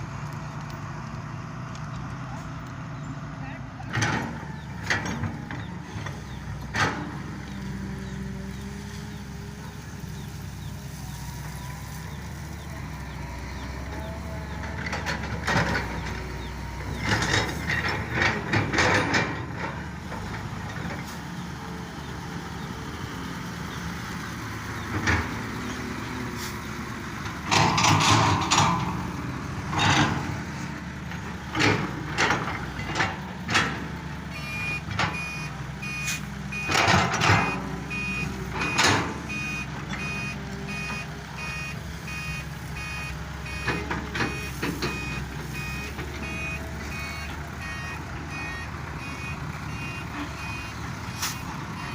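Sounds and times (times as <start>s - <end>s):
excavator and truck engines running: 0.0s - 51.9s.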